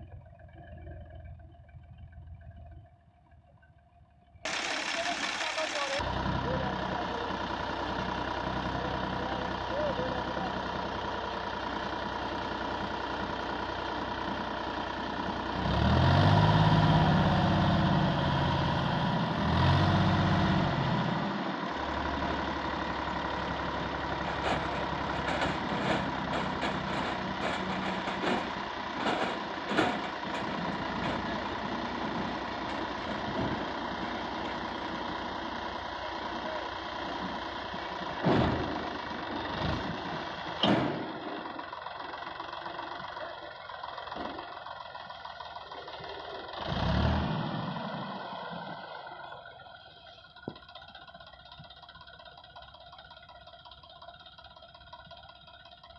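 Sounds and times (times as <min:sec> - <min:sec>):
tractor diesel engine: 0:00.0 - 0:55.9.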